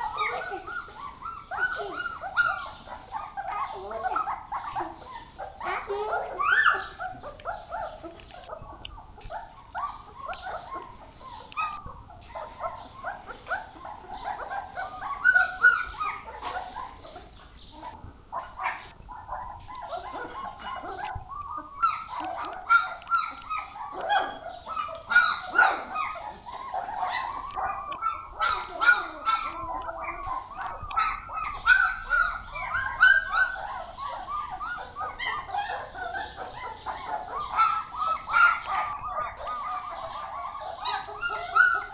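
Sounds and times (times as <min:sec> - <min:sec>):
puppies whining and yipping: 0:00.0 - 0:41.9.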